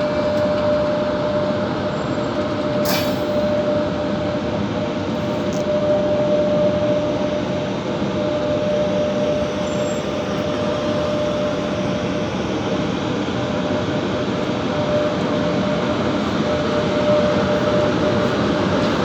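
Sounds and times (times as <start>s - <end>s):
constant hum: 0.0s - 19.0s
electric locomotive running: 0.0s - 19.0s.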